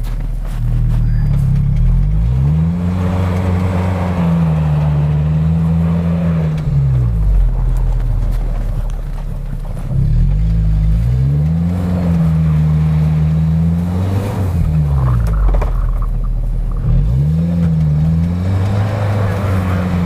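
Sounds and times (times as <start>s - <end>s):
suv engine revving: 0.0s - 20.0s.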